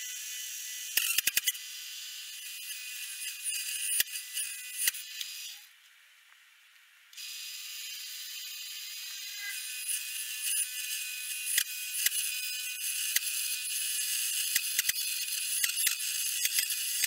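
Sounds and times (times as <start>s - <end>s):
hole saw cutting wood: 0.0s - 5.6s, 7.2s - 17.0s.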